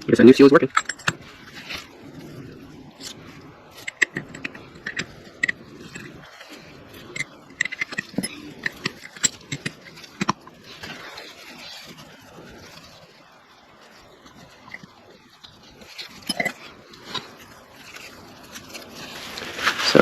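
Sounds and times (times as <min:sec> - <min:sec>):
metal parts clinking and scraping: 0:00.0 - 0:13.2, 0:13.9 - 0:20.0.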